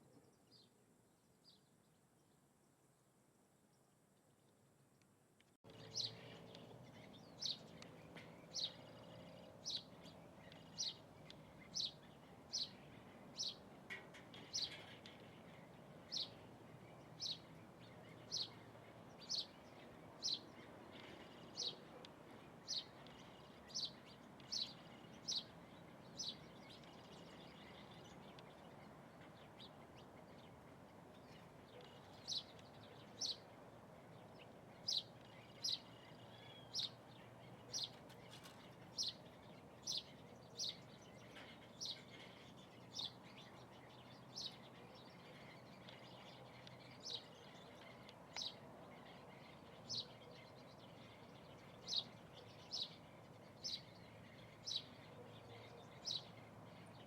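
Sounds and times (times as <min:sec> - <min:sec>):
faint background noise: 0:00.0 - 0:57.0.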